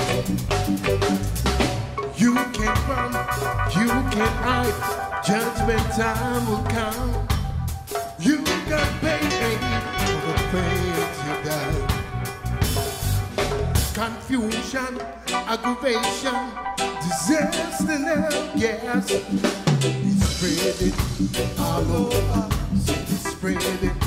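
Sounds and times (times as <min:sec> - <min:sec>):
upbeat song with drums and bass: 0:00.0 - 0:24.0.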